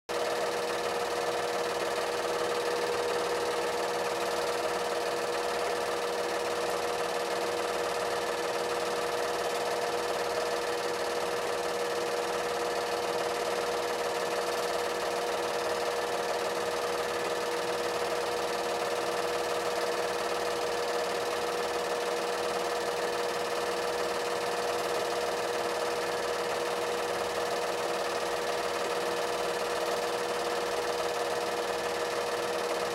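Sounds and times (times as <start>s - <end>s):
film projector whirring: 0.1s - 32.9s.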